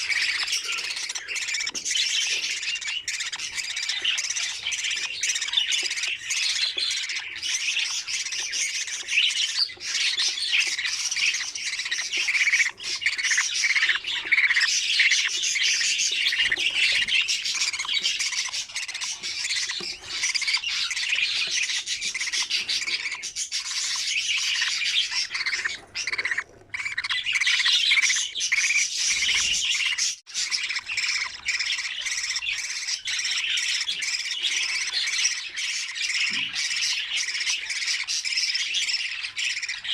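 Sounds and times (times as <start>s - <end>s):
budgerigars squawking and chirping: 0.0s - 39.9s.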